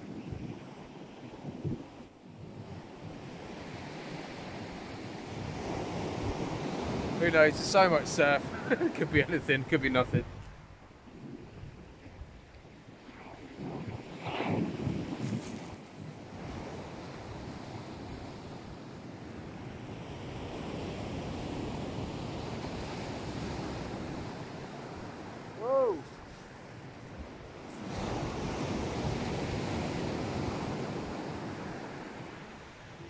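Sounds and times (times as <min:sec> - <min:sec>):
wind on microphone: 0:00.0 - 0:09.4, 0:10.0 - 0:33.0
surf breaking on shore: 0:03.3 - 0:10.3, 0:13.0 - 0:33.0.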